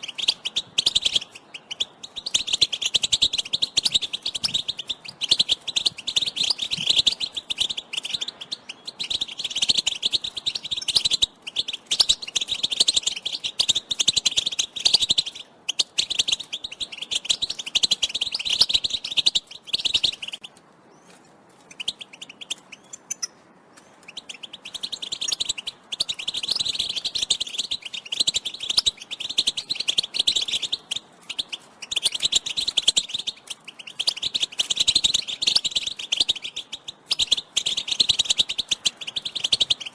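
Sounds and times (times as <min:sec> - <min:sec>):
finch twittering: 0:00.0 - 0:39.9.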